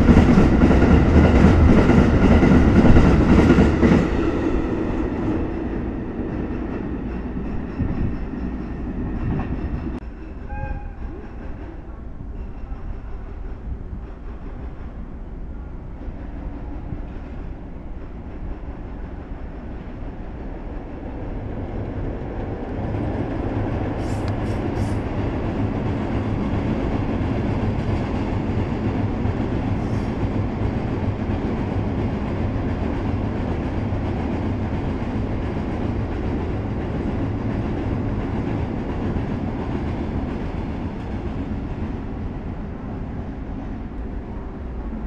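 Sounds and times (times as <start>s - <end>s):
freight train rolling past: 0.0s - 45.0s.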